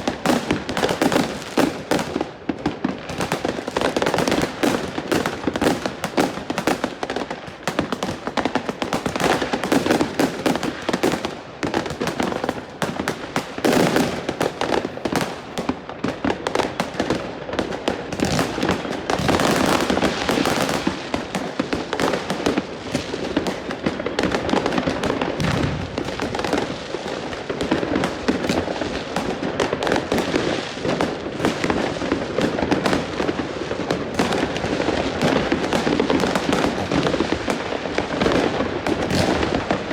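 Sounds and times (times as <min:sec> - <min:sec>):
firecracker bangs and crackling: 0:00.0 - 0:39.9.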